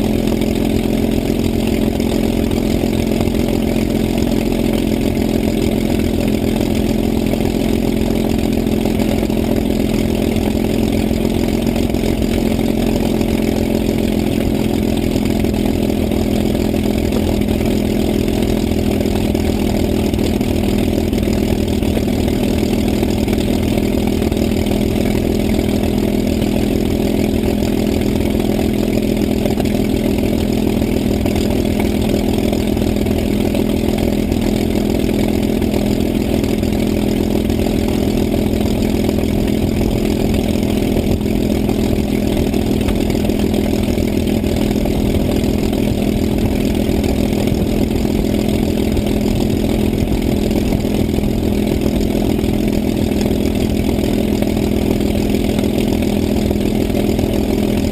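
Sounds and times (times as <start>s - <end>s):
engine idling: 0.0s - 57.9s.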